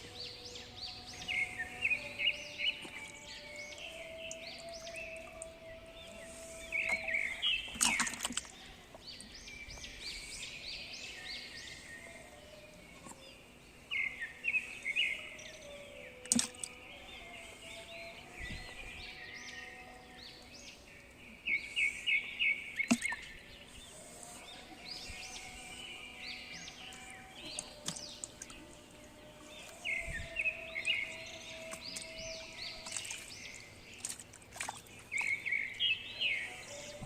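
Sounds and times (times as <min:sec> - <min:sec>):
birds chirping: 0:00.0 - 0:37.0
outdoor background: 0:00.0 - 0:37.0.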